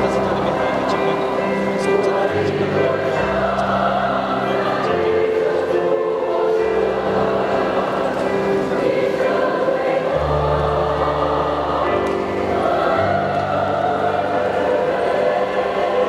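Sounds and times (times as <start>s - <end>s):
mixed choir singing: 0.0s - 16.0s.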